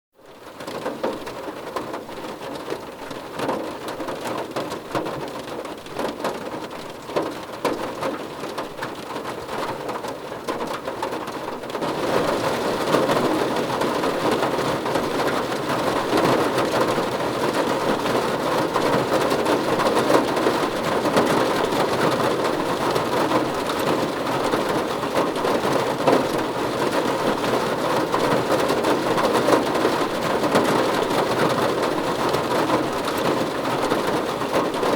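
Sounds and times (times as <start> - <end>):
rain on a car roof: 0.2 - 34.9.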